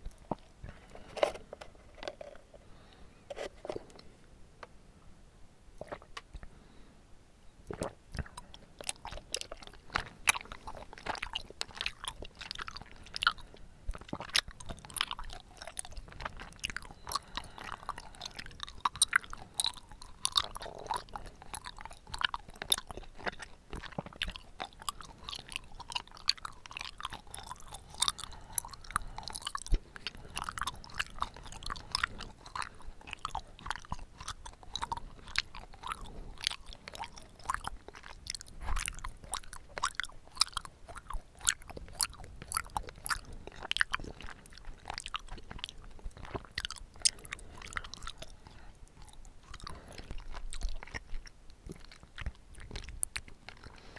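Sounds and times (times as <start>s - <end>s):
close chewing wet clicks: 0.0s - 1.3s, 7.6s - 53.9s.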